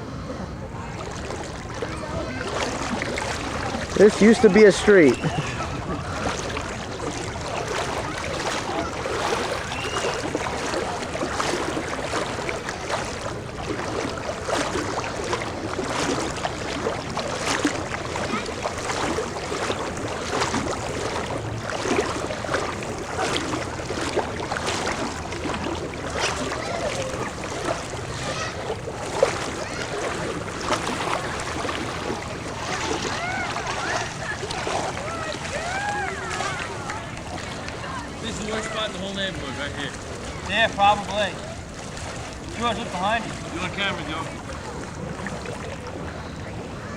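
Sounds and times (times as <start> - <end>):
people wading through water: 0.0 - 46.9.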